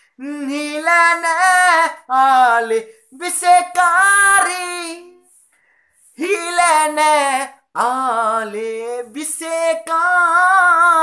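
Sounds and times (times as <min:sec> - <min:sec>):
man singing unaccompanied: 0:00.0 - 0:05.3, 0:06.1 - 0:11.0.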